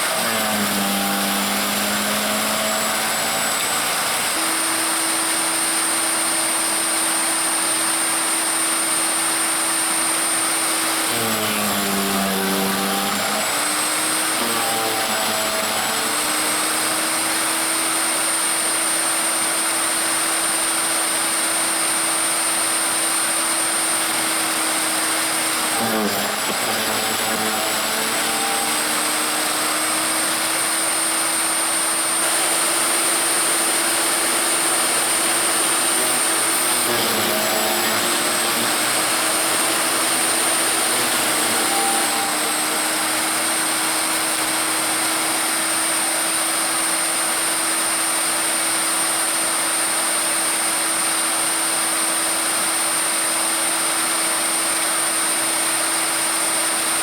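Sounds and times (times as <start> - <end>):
wood chipper motor whining: 0.0 - 57.0.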